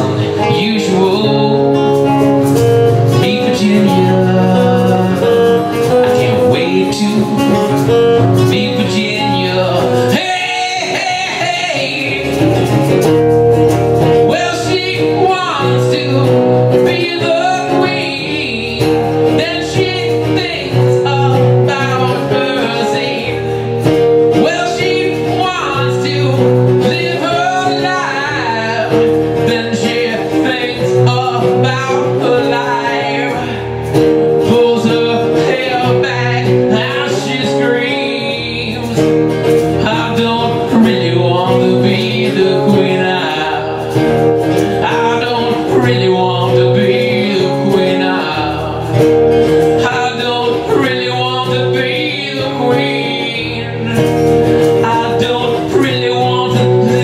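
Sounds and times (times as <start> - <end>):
acoustic guitars strumming: 0.0 - 57.0
man singing: 0.0 - 57.0.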